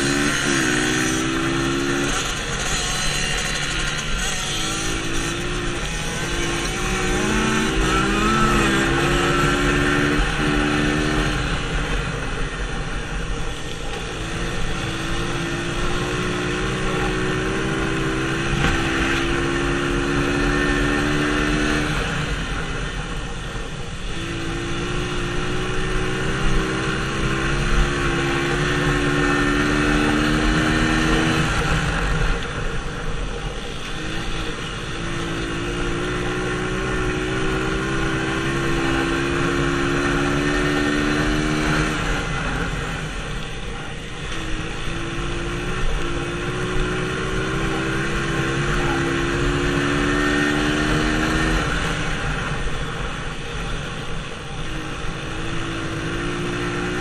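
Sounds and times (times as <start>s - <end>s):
dirt bike engine revving: 0.0s - 12.6s, 13.4s - 22.9s, 24.0s - 32.4s, 33.6s - 57.0s.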